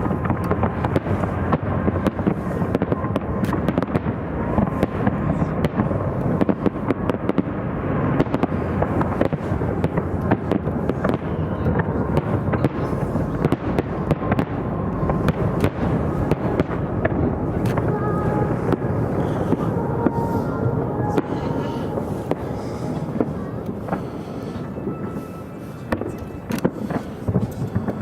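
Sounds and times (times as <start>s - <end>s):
fireworks crackling and popping: 0.0s - 28.0s
rumble of fireworks bangs: 0.0s - 28.0s.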